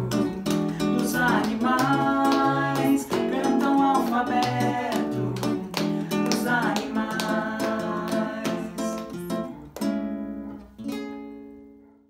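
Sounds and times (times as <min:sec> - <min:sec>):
classical guitar strumming chords: 0:00.0 - 0:12.0.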